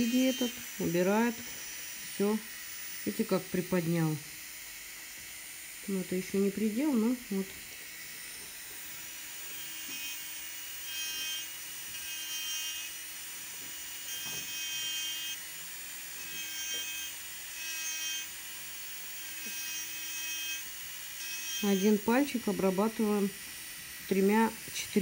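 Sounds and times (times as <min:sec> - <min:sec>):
electric nail drill whining: 0:00.0 - 0:25.0.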